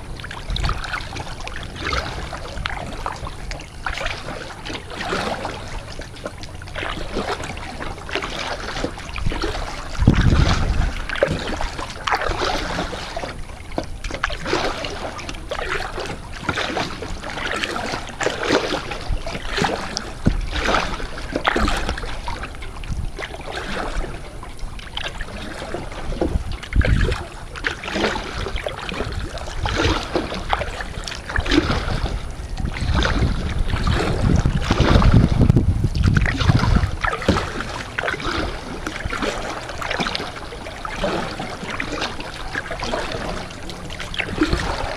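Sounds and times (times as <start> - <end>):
paddle splashing in water: 0.0 - 44.9
wind rumbling on microphone: 0.0 - 44.9.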